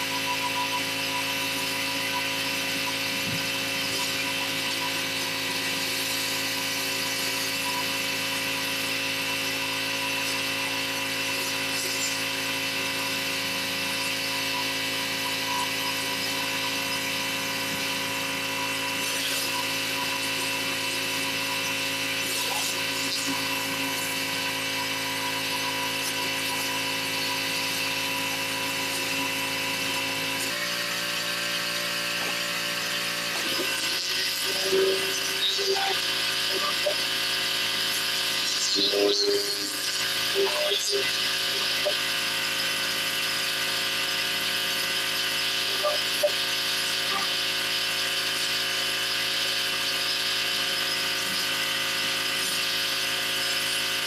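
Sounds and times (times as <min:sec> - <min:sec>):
pressure washer running: 0:00.0 - 0:54.0.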